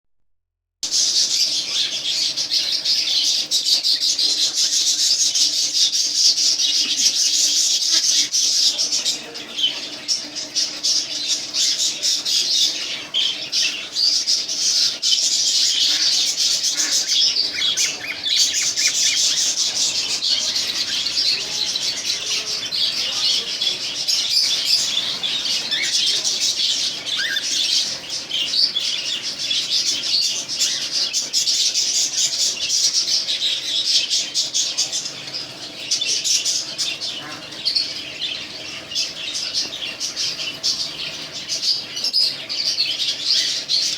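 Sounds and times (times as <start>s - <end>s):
cockatiels chirping and squawking: 0.9s - 43.9s.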